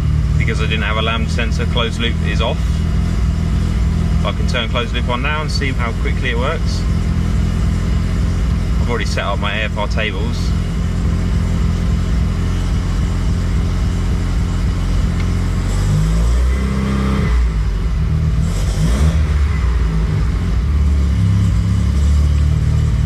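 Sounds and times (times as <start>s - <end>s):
rotary engine idling: 0.0s - 23.0s.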